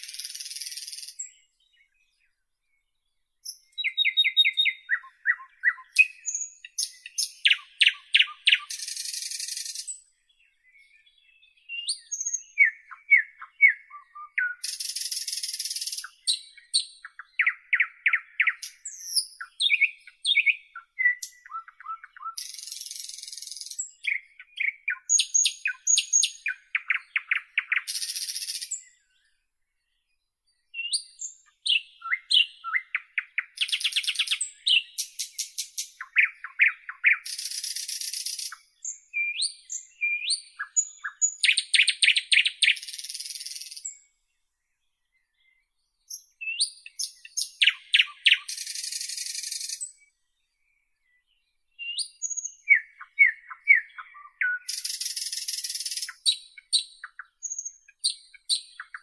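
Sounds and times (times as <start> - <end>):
nightingale singing: 0.0 - 59.0.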